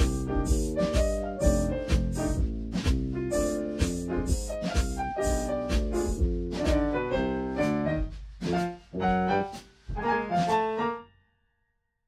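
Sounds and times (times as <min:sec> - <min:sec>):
jazz piano chords: 0:00.0 - 0:11.1.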